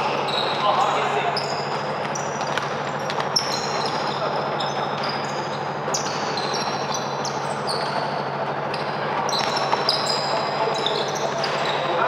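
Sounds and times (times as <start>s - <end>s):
low hall hum: 0.0s - 12.0s
sneakers squeaking on floor: 0.0s - 12.0s.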